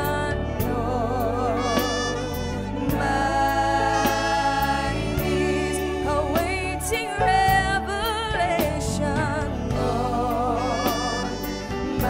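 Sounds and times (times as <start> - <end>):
steady bass line: 0.0 - 12.0
woman singing gospel: 0.0 - 12.0.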